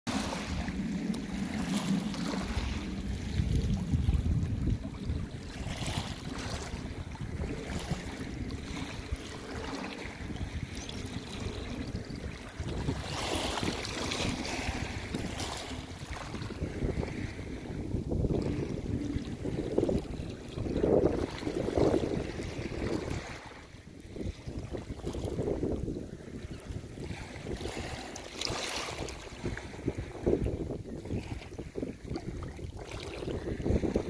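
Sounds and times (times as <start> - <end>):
waves lapping over shingle: 0.1 - 34.0
wind rumbling on microphone: 0.1 - 34.0.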